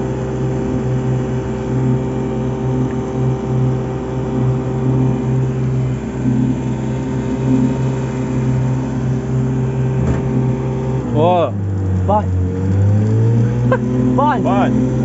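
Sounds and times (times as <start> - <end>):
outboard motor droning: 0.0 - 15.0.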